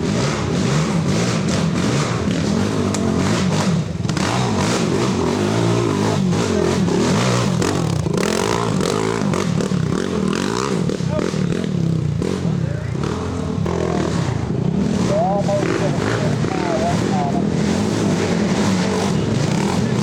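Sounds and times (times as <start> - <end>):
racing atv engines revving: 0.0 - 20.0.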